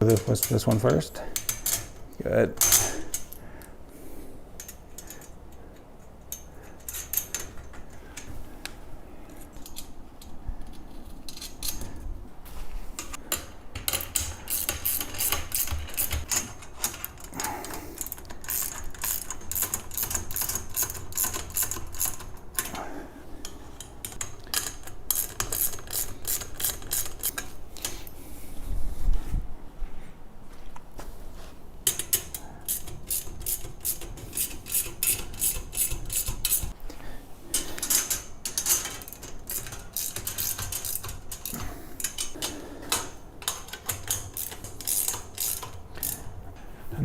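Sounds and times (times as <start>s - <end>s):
hand tools clicking and rattling: 0.0s - 3.4s, 4.6s - 8.4s, 9.3s - 12.0s, 13.0s - 28.0s, 31.8s - 36.8s, 37.5s - 46.4s.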